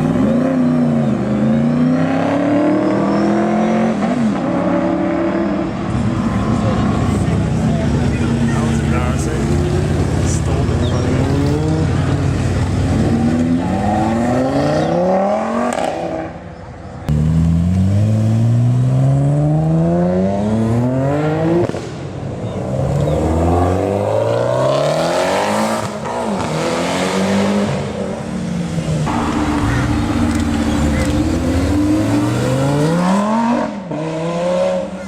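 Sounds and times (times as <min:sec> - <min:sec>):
car engines accelerating hard: 0:00.0 - 0:35.0.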